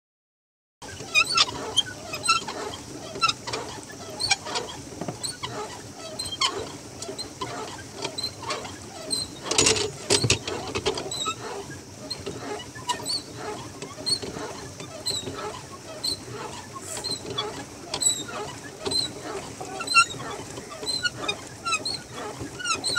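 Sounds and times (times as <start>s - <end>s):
pedal boat mechanism squeaking: 0.8s - 22.9s.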